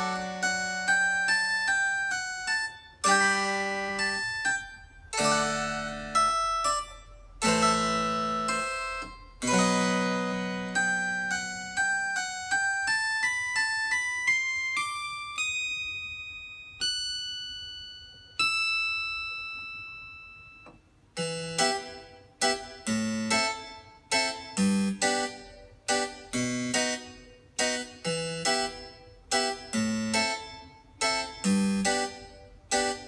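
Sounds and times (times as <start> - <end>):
keyboard playing piano voice: 0.0 - 33.0.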